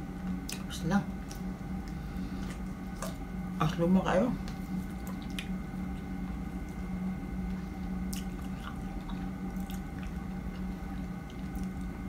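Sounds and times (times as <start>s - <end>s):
steady low hum: 0.0s - 12.0s
wet chewing: 0.4s - 3.3s, 4.4s - 12.0s.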